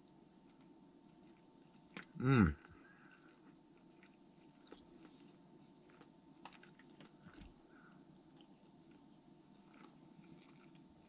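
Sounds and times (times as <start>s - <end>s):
faint steady hum: 0.0s - 11.0s
soft chewing: 0.0s - 11.0s.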